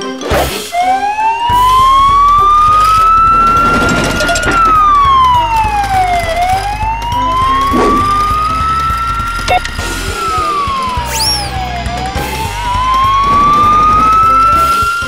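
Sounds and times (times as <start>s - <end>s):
siren wailing: 0.8s - 15.0s
low pulsing background beat: 1.4s - 14.7s.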